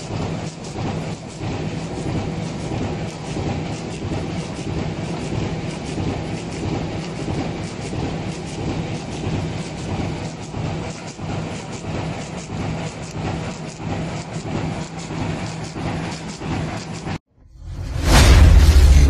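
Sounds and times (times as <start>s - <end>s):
mechanical clatter of rollers: 0.0s - 17.2s
machine low hum: 0.0s - 19.0s.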